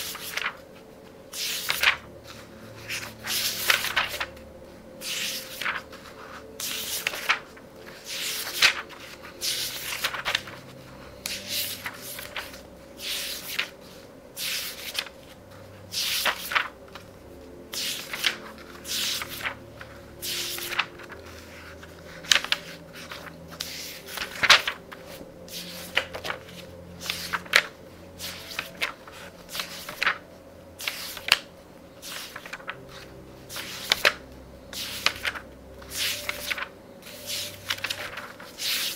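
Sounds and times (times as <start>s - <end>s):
book pages turning: 0.0s - 38.9s
faint soft music: 0.0s - 38.9s.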